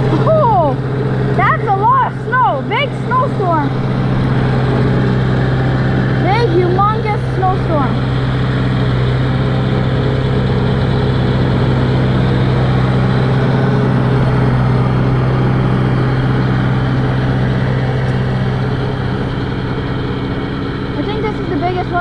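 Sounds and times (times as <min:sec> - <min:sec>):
vehicle engine running steadily: 0:00.0 - 0:22.0.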